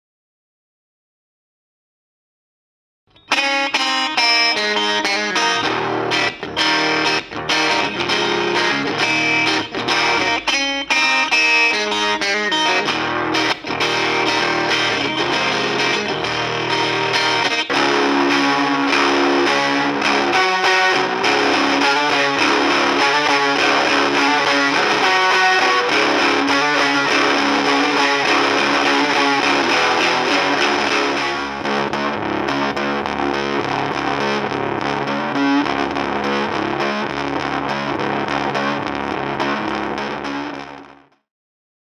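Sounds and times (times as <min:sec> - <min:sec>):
distorted electric guitar riff: 0:03.1 - 0:41.3.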